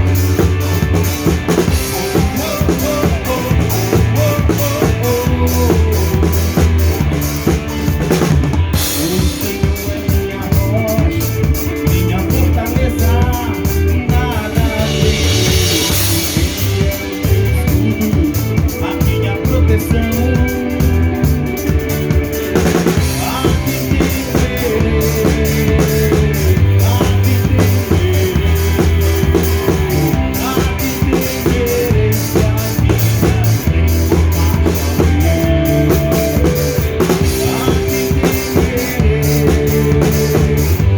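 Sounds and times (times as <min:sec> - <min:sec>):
live band playing: 0:00.0 - 0:40.9.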